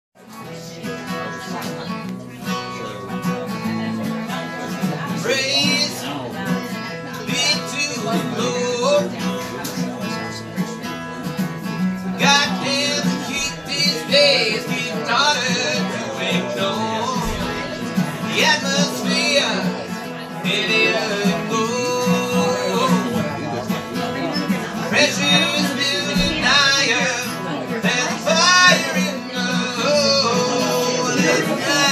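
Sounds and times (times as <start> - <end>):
acoustic guitar strumming: 0.2 - 31.9.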